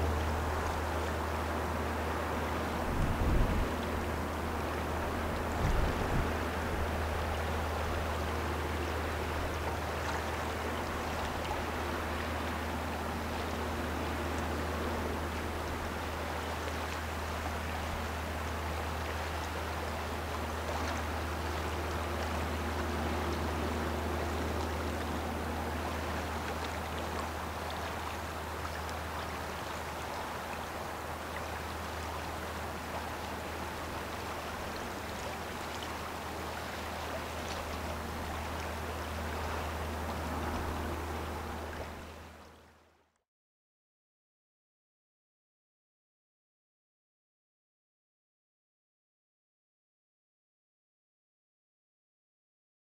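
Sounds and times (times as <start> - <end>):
low engine drone: 0.0 - 43.0.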